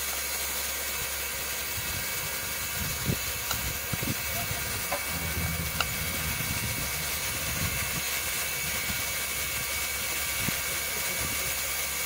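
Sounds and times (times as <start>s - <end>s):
steam venting hiss: 0.0s - 12.0s
low uneven rumble: 1.3s - 11.7s.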